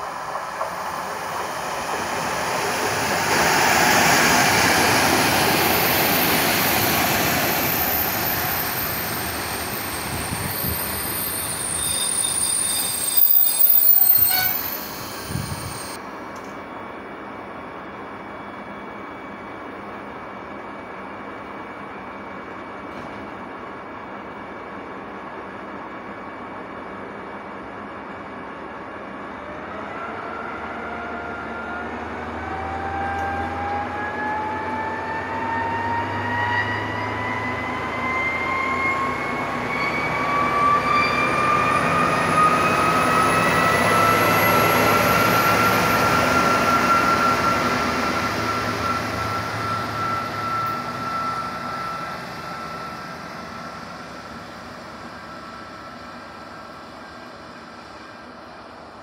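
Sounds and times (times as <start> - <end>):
train whine rising in pitch: 0.0 - 22.8, 23.4 - 59.0.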